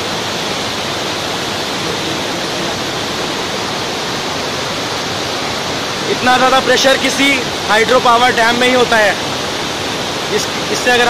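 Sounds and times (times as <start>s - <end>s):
river pouring over waterfall: 0.0s - 11.0s.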